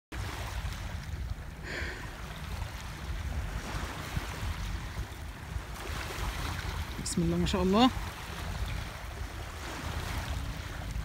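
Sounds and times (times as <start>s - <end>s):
small waves on pebbly shore: 0.1s - 11.0s
wind buffeting microphone: 0.1s - 11.0s.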